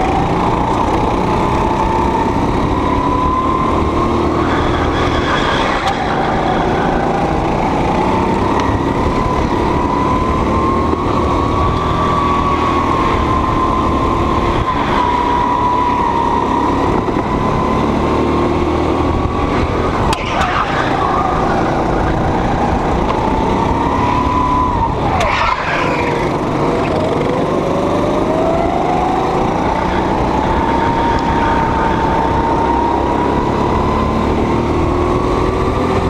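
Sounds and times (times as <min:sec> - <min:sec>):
go-kart engine running hard: 0:00.0 - 0:36.0.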